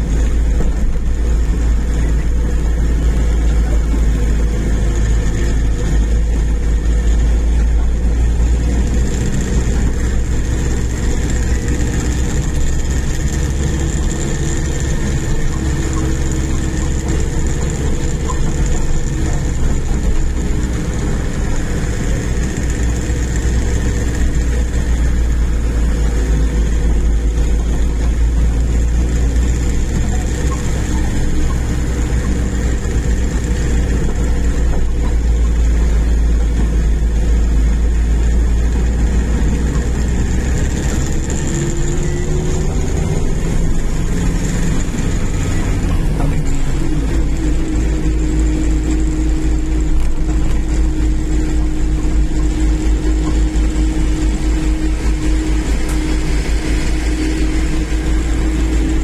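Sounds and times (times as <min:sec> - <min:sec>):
vehicle cabin engine and road noise: 0:00.0 - 0:59.0.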